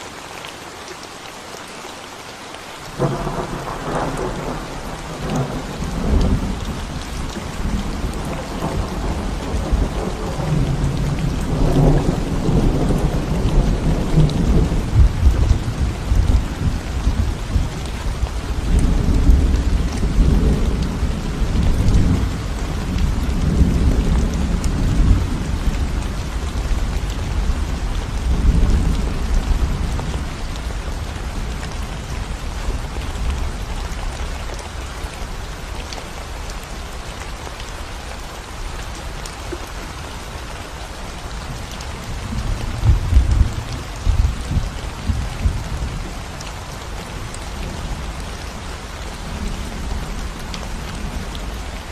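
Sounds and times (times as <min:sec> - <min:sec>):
rain on concrete road: 0:00.0 - 0:51.9.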